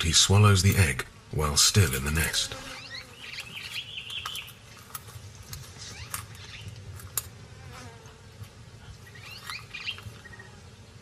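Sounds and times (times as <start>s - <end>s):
insect buzz: 0.0s - 11.0s.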